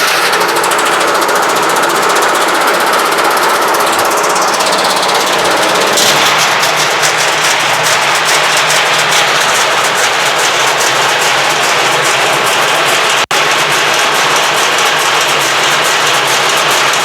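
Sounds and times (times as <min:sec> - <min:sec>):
washing machine banging and rattling: 0:00.0 - 0:17.0.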